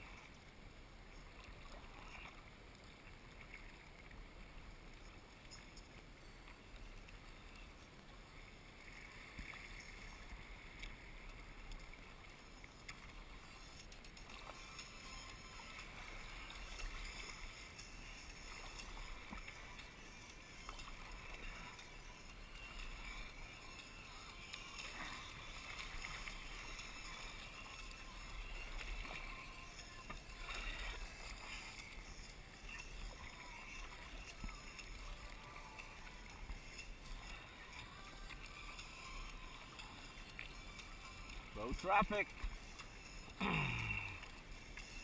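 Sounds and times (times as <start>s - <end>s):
water washing along hull: 0.0s - 43.4s, 44.1s - 45.0s
kayak paddle strokes in water: 0.0s - 45.0s.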